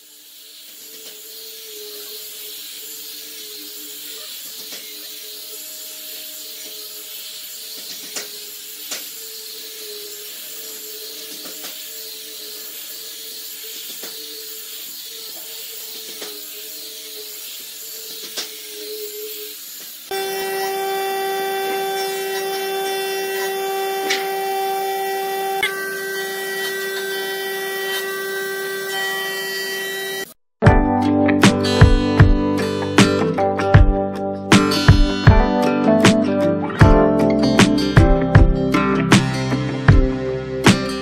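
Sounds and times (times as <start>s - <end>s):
angle grinder sanding wood: 0.0s - 30.4s, 31.4s - 41.0s.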